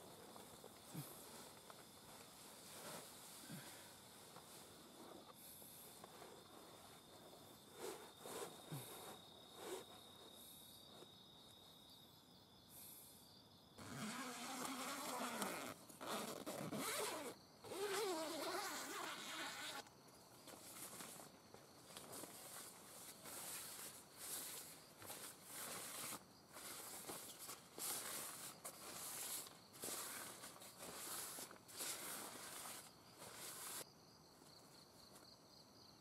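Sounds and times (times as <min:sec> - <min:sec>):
rustling inside nylon tent: 0:00.0 - 0:11.1, 0:13.8 - 0:33.9
insect trill: 0:00.0 - 0:36.0.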